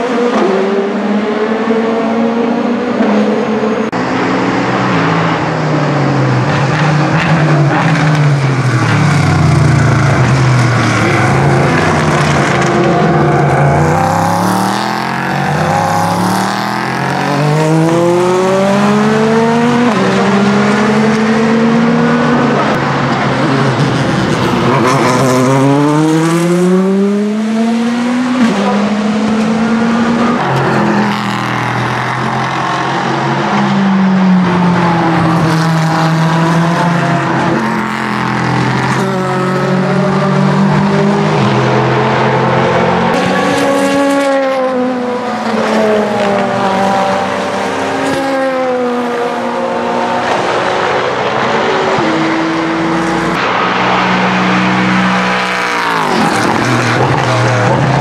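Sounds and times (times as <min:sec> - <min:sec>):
race car engines accelerating: 0:00.0 - 0:58.0.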